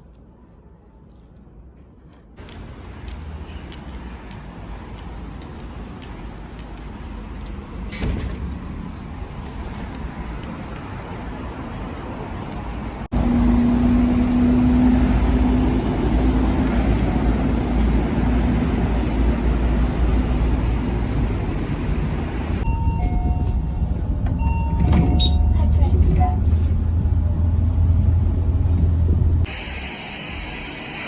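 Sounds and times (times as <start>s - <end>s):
road traffic rumble: 2.1s - 31.0s
low engine hum: 2.5s - 29.5s.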